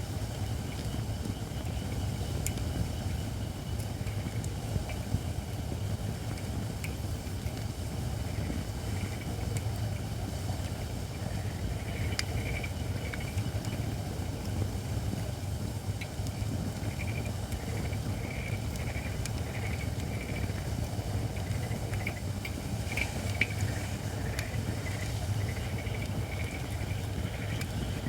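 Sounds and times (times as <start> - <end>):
sharp crackles of fire: 0.0 - 28.0
wood fire low rumble: 0.0 - 28.0.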